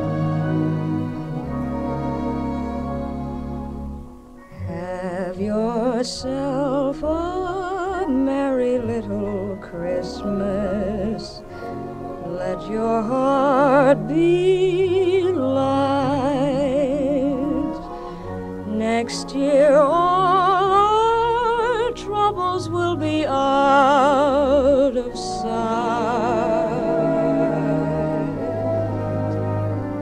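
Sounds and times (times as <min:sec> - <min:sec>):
low sustained accompaniment: 0:00.0 - 0:30.0
operatic singing: 0:04.5 - 0:30.0.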